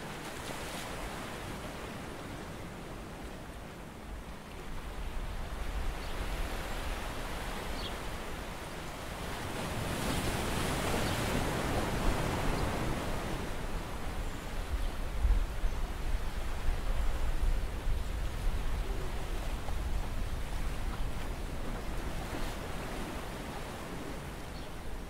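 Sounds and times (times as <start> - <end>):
sea water and wind hiss: 0.0 - 25.0.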